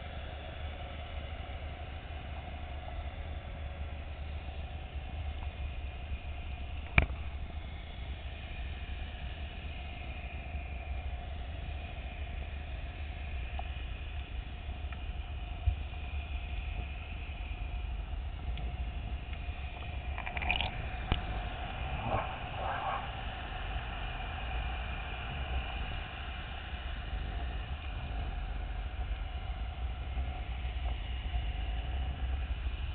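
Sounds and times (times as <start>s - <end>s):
underwater machinery rumble and hum: 0.0s - 32.9s.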